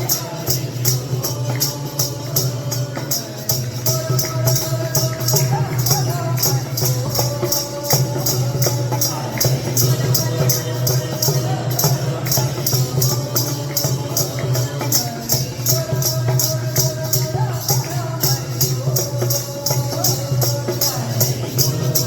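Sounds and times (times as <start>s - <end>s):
shaken jingling percussion: 0.0s - 22.0s
voices singing: 0.0s - 22.0s.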